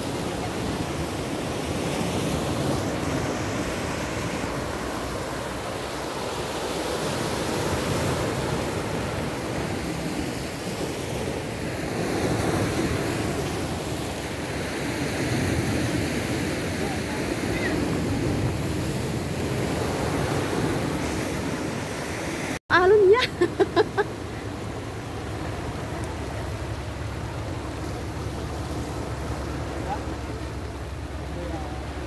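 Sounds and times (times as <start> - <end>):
waves breaking on rocky shore: 0.0 - 32.0.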